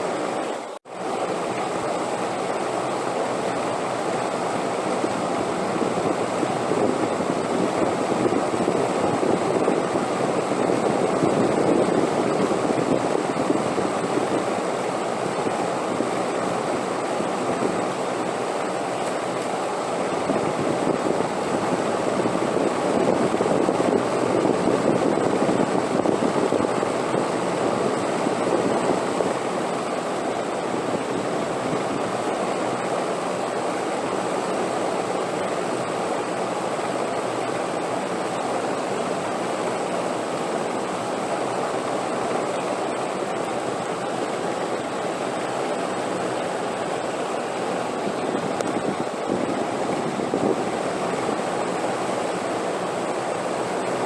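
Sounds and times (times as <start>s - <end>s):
steady wind rushing: 1.0s - 54.0s.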